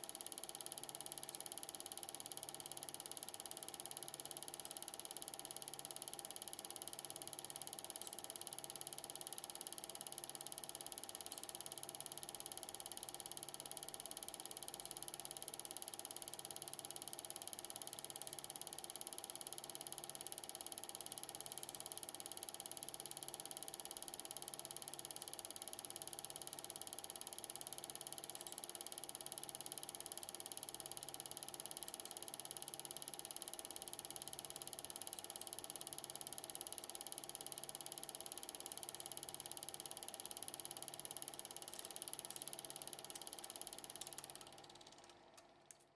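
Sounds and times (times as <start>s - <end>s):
film projector whirring: 0.0s - 45.8s.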